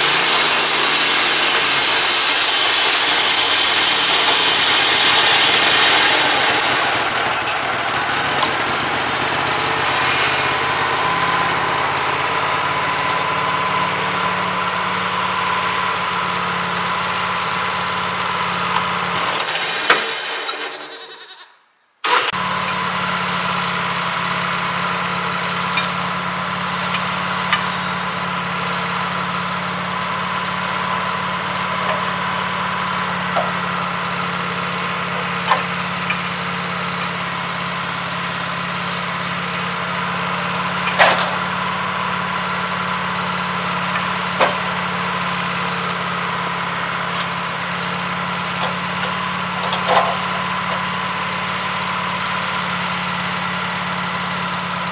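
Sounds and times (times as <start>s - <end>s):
sawmill engine running: 0.0s - 21.0s, 22.0s - 54.9s.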